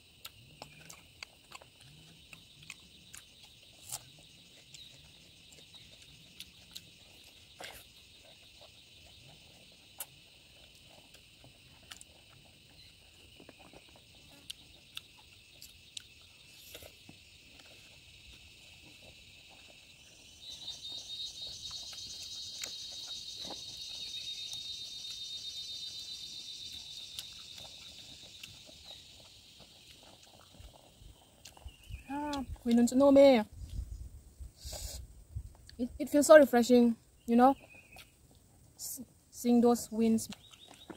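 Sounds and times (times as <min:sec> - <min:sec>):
insects trilling: 0:00.0 - 0:33.5
rapidly pulsing insect trill: 0:00.0 - 0:33.5.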